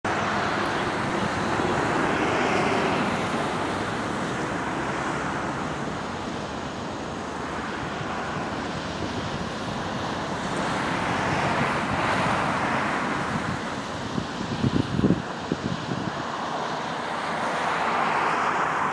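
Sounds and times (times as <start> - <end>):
jet engines roaring: 0.0 - 18.9.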